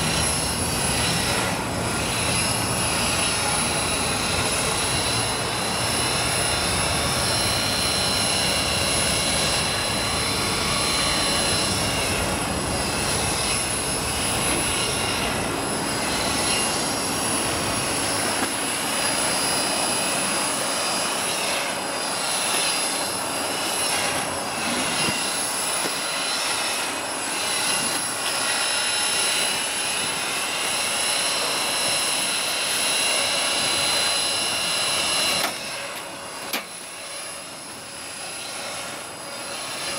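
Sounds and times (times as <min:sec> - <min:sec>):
model helicopter rotors whining: 0:00.0 - 0:39.9.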